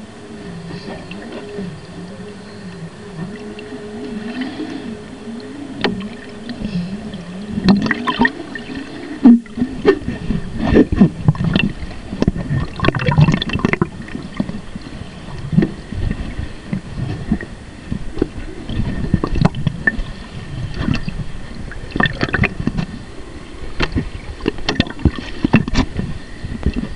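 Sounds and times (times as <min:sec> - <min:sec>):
muffled underwater water movement: 0:00.0 - 0:26.9
wavering low hum: 0:00.0 - 0:26.9.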